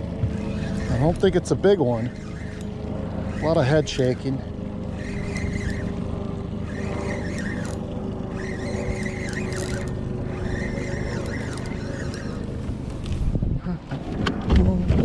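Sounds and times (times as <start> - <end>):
fishing reel whirring: 0.0 - 13.2
boat motor running: 0.0 - 15.0.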